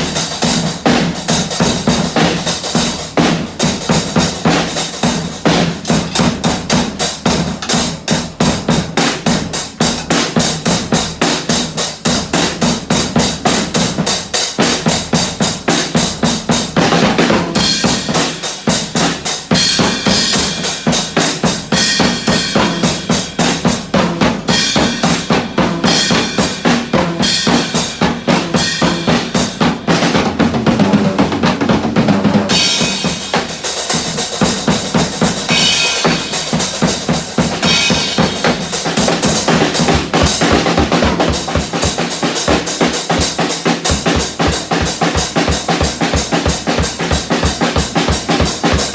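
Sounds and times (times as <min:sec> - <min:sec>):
fast steady drumming: 0:00.0 - 0:48.9.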